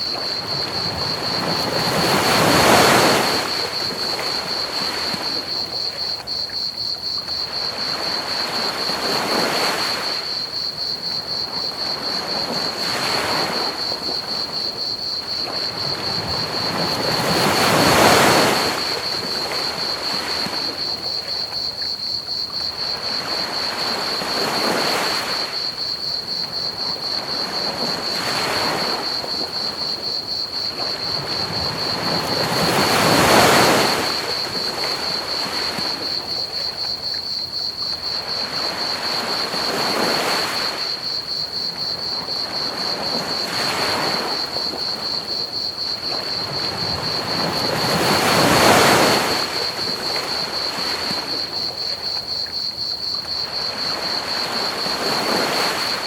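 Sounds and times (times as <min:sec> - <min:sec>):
ocean waves breaking: 0:00.0 - 0:05.9, 0:11.4 - 0:21.5, 0:22.7 - 0:36.9, 0:37.9 - 0:56.0
crickets chirping: 0:00.0 - 0:56.0.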